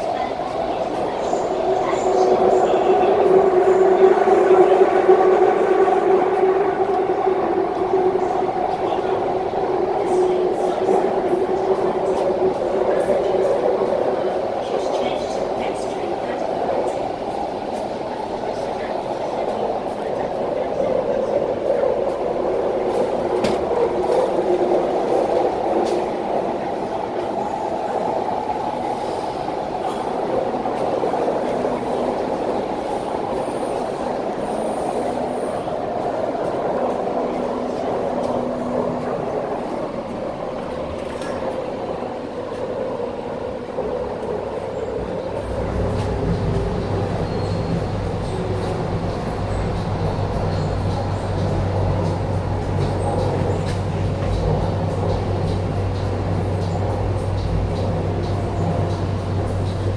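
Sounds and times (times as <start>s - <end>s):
metro motor whine: 0.0s - 59.9s
train wheels rumbling: 0.0s - 59.9s.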